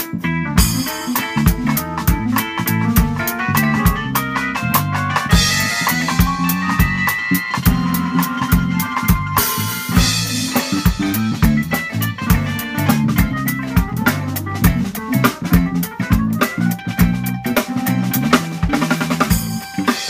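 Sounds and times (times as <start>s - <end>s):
low bass line: 0.0s - 19.9s
digital piano chords: 0.0s - 20.0s
drum kit beat: 0.0s - 20.0s.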